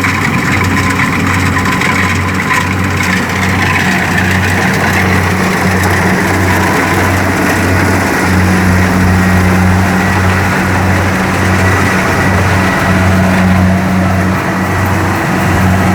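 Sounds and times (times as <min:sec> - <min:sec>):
combine harvester engine running: 0:00.0 - 0:15.9.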